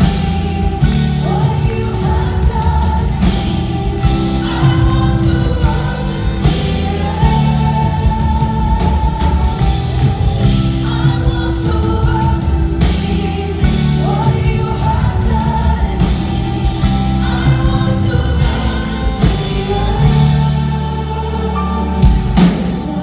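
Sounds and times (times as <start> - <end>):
electric bass: 0.0 - 23.0
woman singing lead: 0.0 - 23.0
worship band playing live: 0.0 - 23.0.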